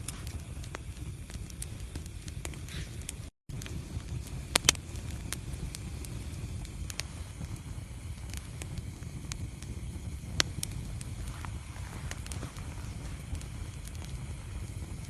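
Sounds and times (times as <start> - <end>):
fire crackling: 0.0 - 15.0
low rumble of flames: 0.0 - 15.0
sharp pops of fire: 0.0 - 15.0.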